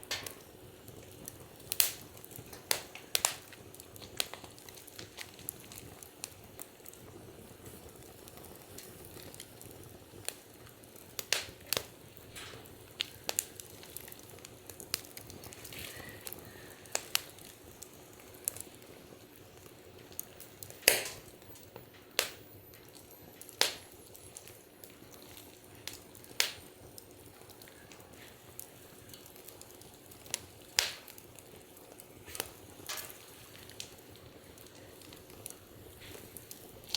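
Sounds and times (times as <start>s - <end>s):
sharp pops from burning logs: 0.0s - 36.9s
wood fire crackling: 0.0s - 36.9s.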